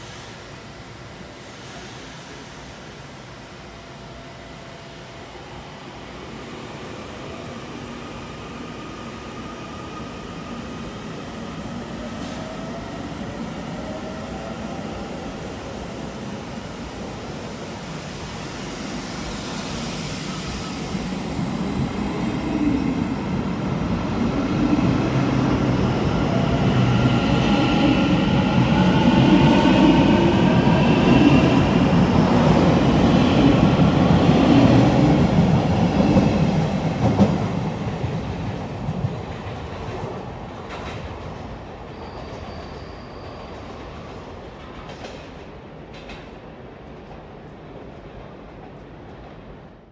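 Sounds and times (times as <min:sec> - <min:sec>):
electric train running by: 0:00.0 - 0:49.6.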